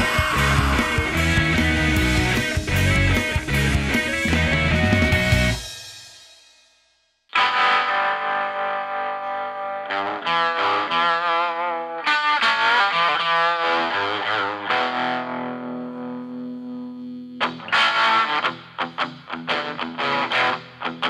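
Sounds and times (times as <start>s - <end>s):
distorted electric guitar: 0.0s - 5.9s, 7.3s - 21.0s.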